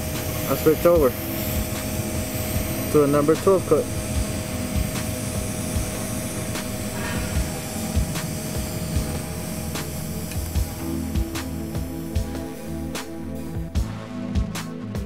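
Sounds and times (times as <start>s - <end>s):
welding arc hissing: 0.0s - 13.9s.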